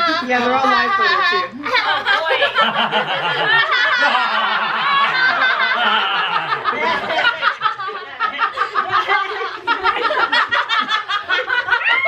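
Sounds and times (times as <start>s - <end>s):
group of people laughing: 0.0s - 12.0s.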